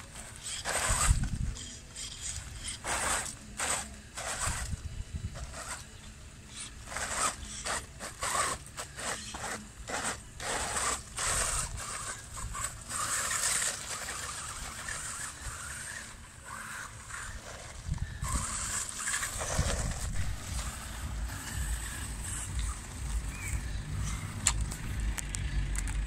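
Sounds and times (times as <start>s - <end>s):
crunching and scraping over gravel: 0.0s - 26.0s.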